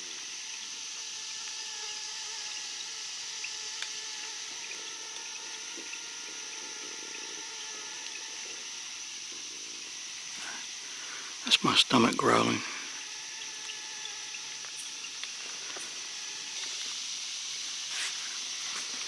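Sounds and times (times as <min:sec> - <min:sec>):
faint steady trilling: 0:00.0 - 0:17.9
high-pitched insect drone: 0:00.0 - 0:19.0.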